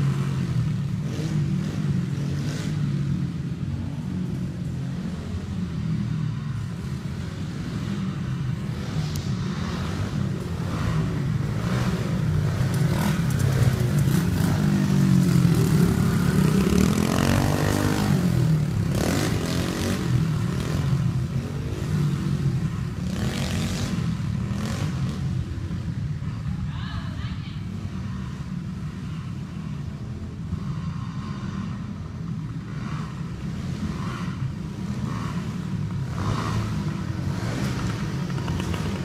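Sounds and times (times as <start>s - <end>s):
dirt bike engine revving: 0.0s - 26.4s, 30.5s - 39.0s.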